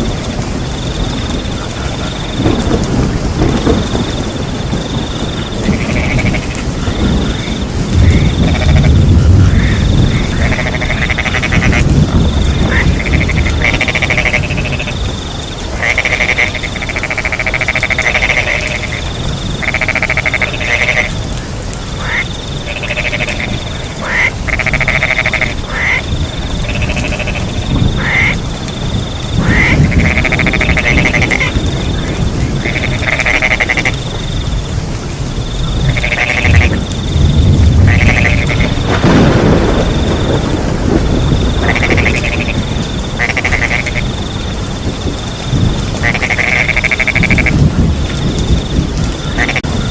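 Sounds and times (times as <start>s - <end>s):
frogs croaking: 0.0s - 49.9s
insects chirping: 0.0s - 49.9s
rain: 0.0s - 49.9s.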